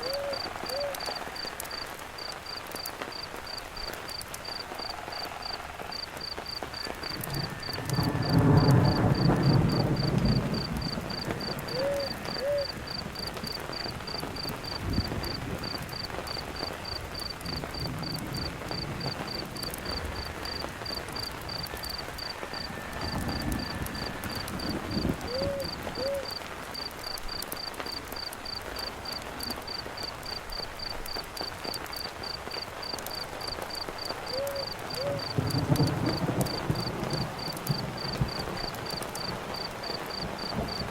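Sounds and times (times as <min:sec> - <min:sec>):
distant thunder rumbling: 0:00.0 - 0:31.1, 0:33.4 - 0:40.9
campfire crackling: 0:00.0 - 0:40.9
cricket chirping: 0:00.0 - 0:40.9
steady rain: 0:00.0 - 0:40.9.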